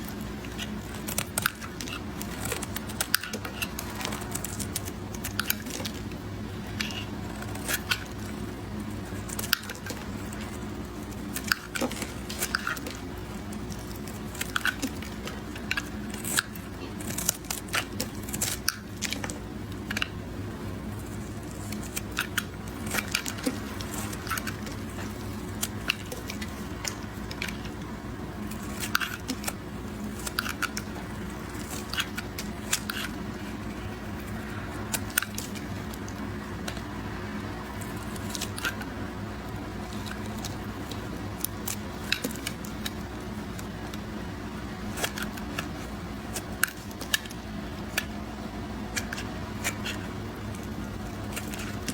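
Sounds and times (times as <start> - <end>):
knife cutting soap: 0.0 - 51.9.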